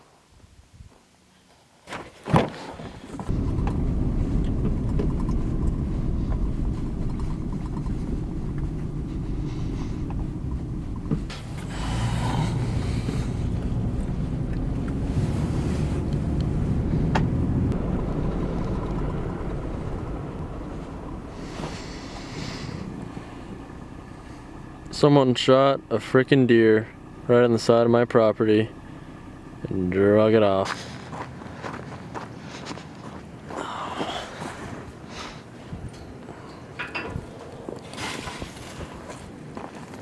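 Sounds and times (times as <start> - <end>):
vehicle engine rumble: 2.8 - 40.0.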